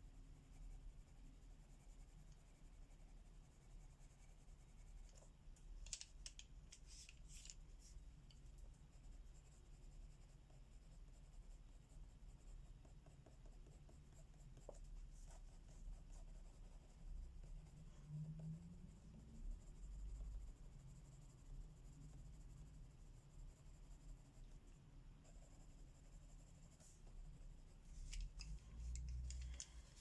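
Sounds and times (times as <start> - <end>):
colouring strokes scratching paper: 0.3 - 18.1, 18.8 - 30.0.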